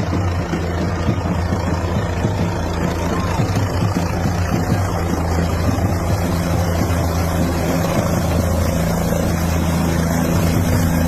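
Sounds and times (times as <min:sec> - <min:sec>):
helicopter droning: 0:00.0 - 0:11.0.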